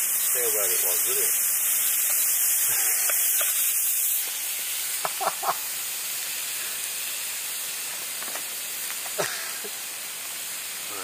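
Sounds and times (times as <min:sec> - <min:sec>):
food sizzling over campfire: 0:00.0 - 0:11.0.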